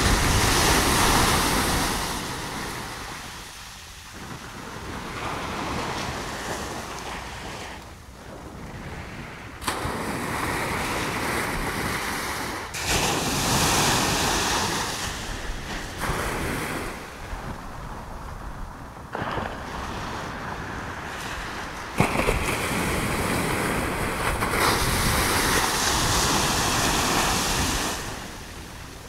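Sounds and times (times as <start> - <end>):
surf breaking on sandy beach: 0.0 - 29.0.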